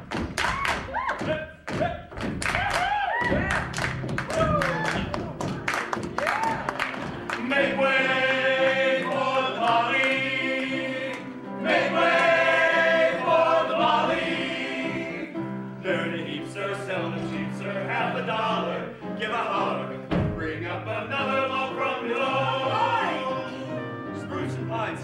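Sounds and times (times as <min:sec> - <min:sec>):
instrumental accompaniment: 0:03.3 - 0:25.0
chorus singing: 0:04.4 - 0:25.0.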